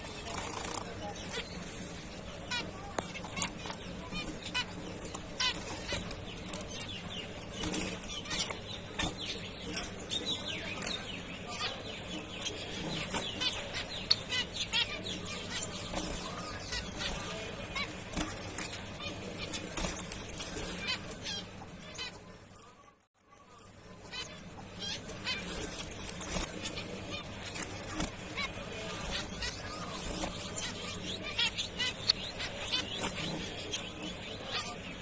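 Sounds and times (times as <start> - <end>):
finches chirping: 0.0 - 35.0.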